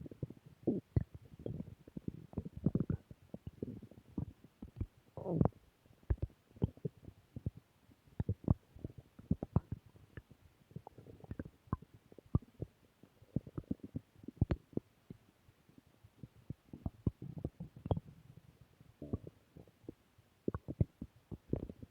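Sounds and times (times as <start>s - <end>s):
stomach growling and gurgling: 0.0s - 21.9s.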